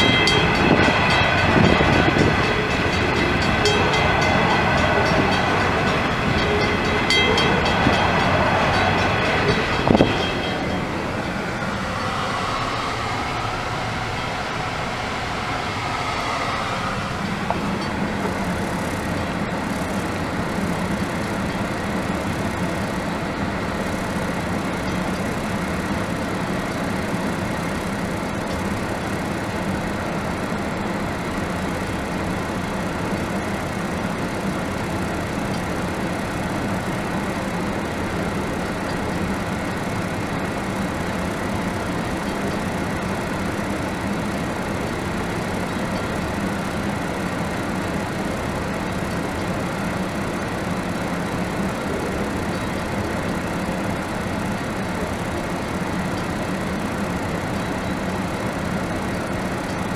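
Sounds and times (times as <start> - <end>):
train wagons rumbling past: 0.0 - 59.9.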